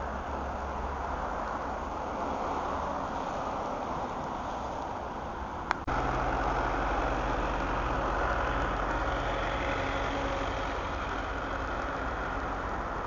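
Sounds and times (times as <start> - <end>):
low train engine hum: 0.0 - 13.0.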